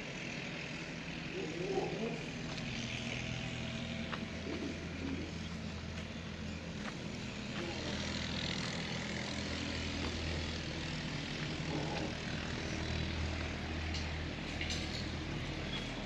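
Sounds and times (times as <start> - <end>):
motor drone: 0.0 - 16.0.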